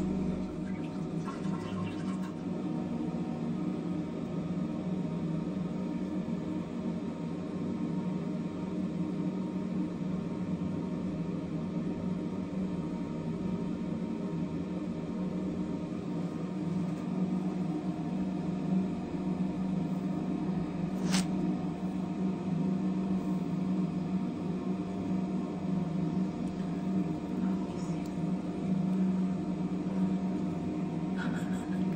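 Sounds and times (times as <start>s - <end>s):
low mechanical hum: 0.0s - 31.9s.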